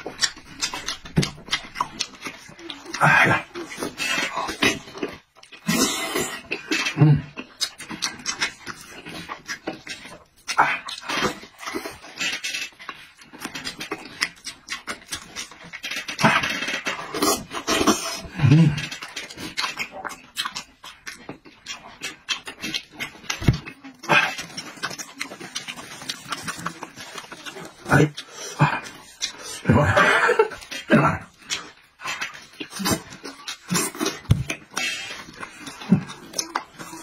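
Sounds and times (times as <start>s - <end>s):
man chewing and lip-smacking: 0.0s - 37.0s.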